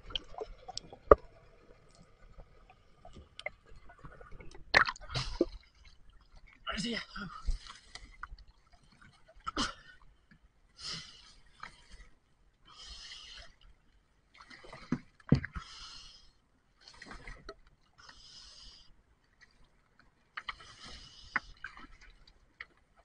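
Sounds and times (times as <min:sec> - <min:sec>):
water sloshing and bubbling: 0:00.0 - 0:23.0.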